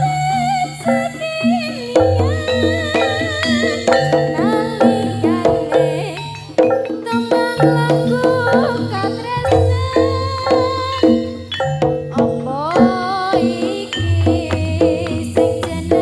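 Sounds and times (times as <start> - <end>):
drums: 0.0 - 16.0
tuned metal percussion: 0.0 - 16.0
wavering melody line: 0.0 - 16.0.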